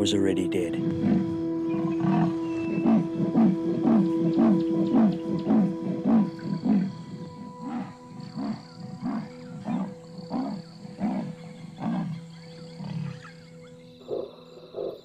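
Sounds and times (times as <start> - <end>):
leopard calling: 0.0 - 13.3
soft background music: 0.0 - 15.0.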